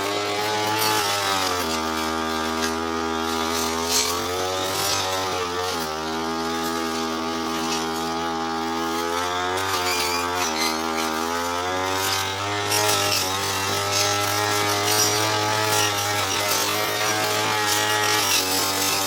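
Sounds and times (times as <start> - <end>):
brush cutter engine running: 0.0 - 19.0.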